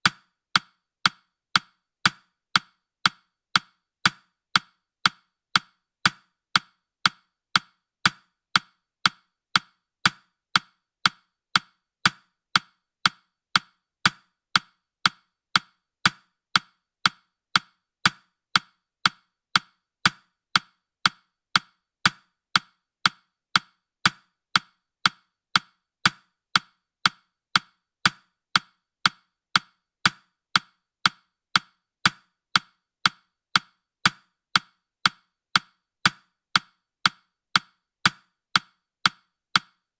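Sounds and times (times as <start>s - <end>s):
clock-like timer ticks: 0.0s - 39.9s.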